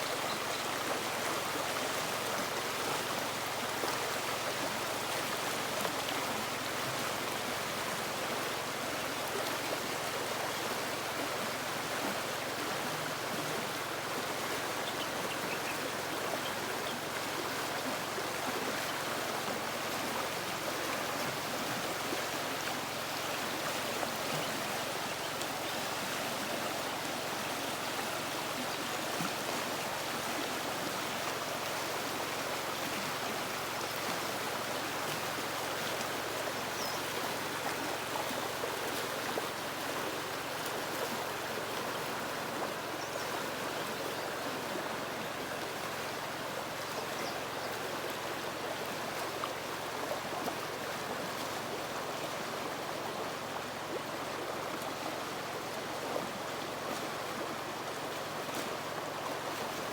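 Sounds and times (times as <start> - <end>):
river running over rocks: 0.0 - 59.9.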